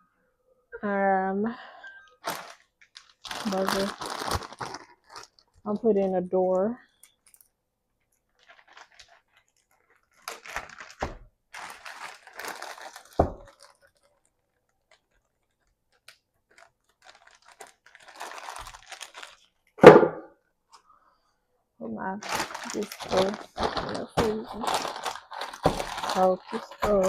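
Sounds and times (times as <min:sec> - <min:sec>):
plastic packaging crinkling: 0:02.1 - 0:19.8, 0:22.2 - 0:27.0.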